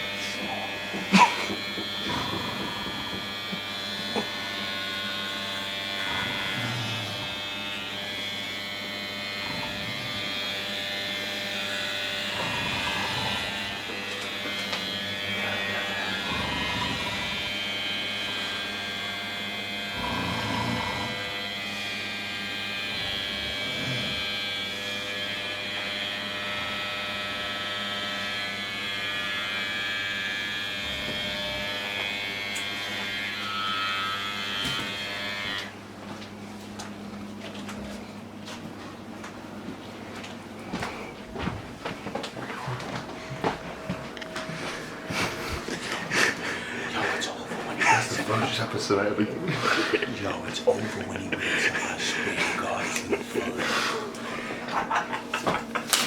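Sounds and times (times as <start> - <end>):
electric hair clippers buzzing: 0.0 - 56.0.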